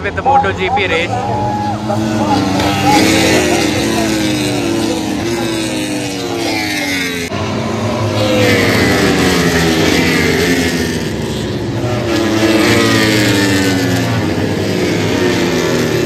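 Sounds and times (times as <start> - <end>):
race motorcycles passing at high revs: 0.0 - 16.0.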